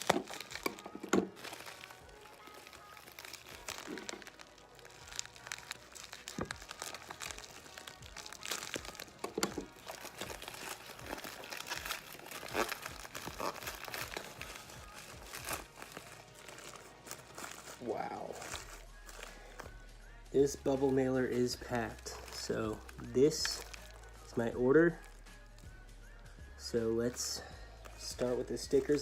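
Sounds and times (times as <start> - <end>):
plastic packaging crinkling: 0.0 - 19.8, 20.7 - 25.6.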